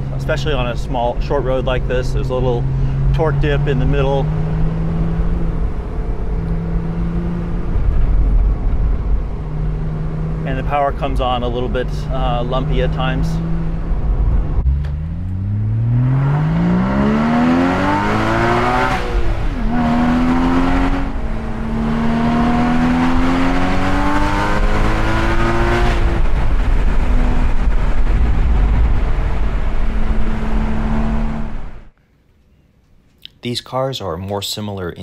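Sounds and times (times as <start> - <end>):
car engine revving hard: 1.3 - 8.0, 9.4 - 31.8.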